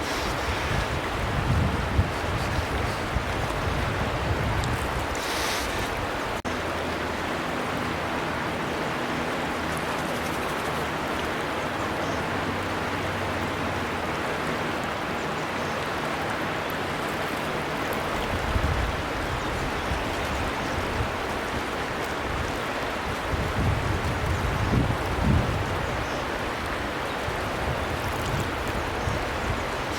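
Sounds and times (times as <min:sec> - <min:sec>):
river water flowing: 0:00.0 - 0:29.9.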